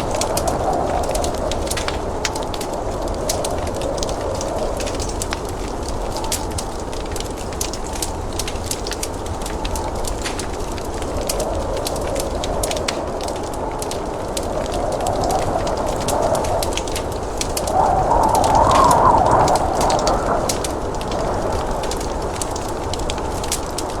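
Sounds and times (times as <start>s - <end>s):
blizzard wind moaning: 0.0s - 24.0s
wood fire crackling and popping: 0.0s - 24.0s.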